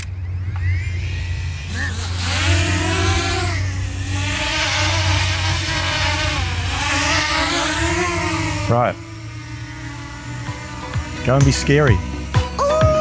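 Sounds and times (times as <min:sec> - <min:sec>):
drone propeller whine: 0:00.0 - 0:13.0
steady low hum: 0:00.0 - 0:13.0.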